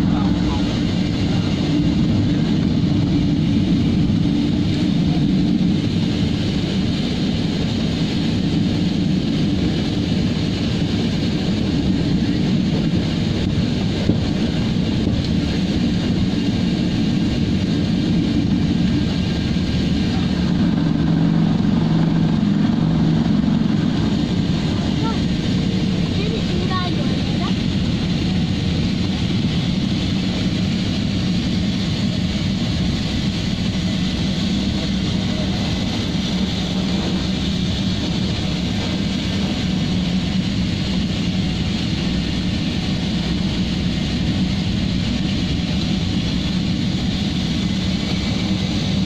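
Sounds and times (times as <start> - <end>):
turboprop engines droning: 0.0 - 49.0.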